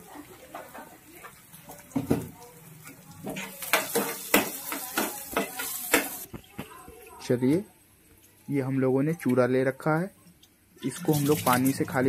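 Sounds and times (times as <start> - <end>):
onions sizzling: 0.0 - 9.5, 10.8 - 12.0.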